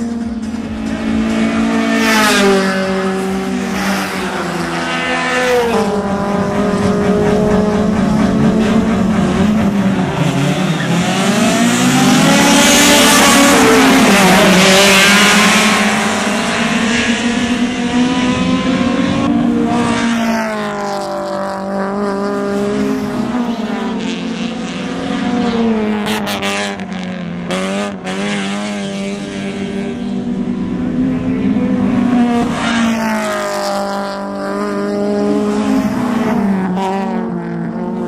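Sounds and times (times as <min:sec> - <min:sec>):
racing engines at high revs passing: 0:00.0 - 0:38.0.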